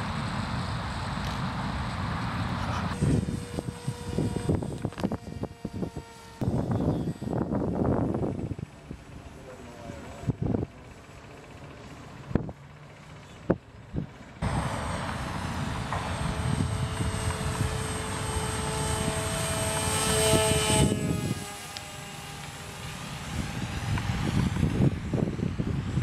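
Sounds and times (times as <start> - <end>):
model plane propeller whining: 0.0 - 26.0.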